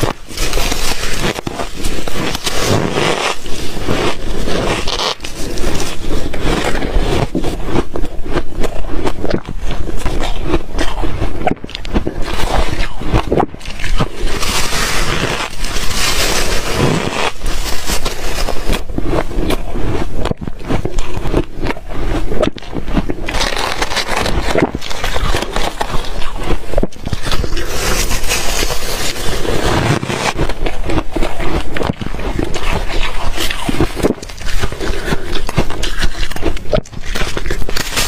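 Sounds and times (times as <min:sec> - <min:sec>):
ice being chewed and crunched: 0:00.0 - 0:38.0.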